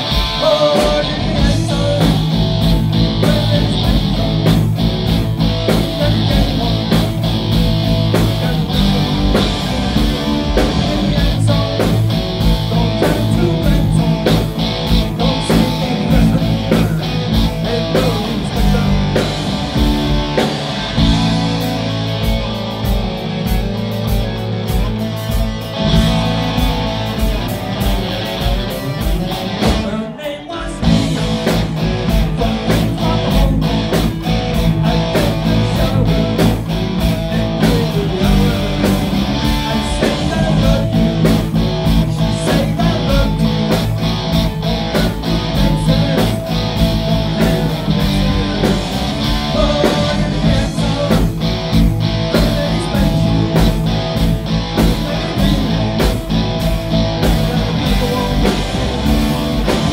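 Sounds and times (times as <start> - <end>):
steady drum beat: 0.0 - 30.1, 30.8 - 59.9
rock band playing: 0.0 - 59.9.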